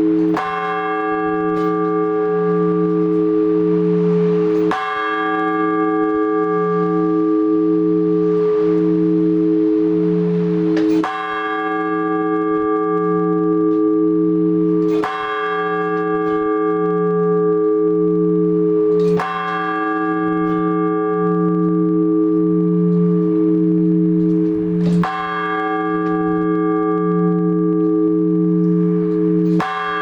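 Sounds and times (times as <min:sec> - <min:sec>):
large church bell ringing: 0:00.0 - 0:30.0.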